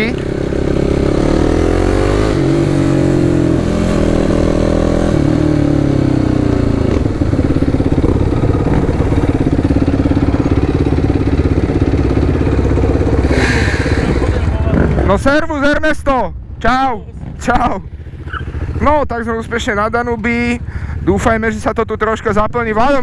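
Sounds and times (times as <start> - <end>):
quad bike engine accelerating: 0.0 - 15.2, 17.2 - 20.6.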